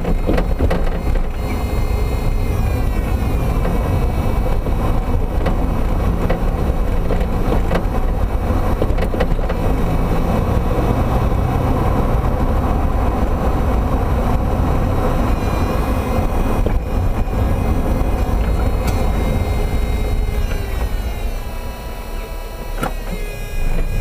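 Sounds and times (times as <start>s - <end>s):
car low rumble: 0.0s - 24.0s.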